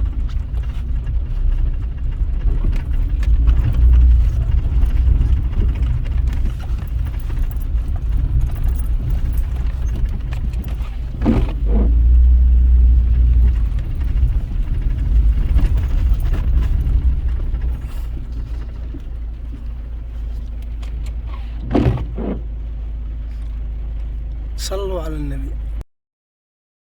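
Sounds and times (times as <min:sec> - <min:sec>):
low rumble: 0:00.0 - 0:25.8.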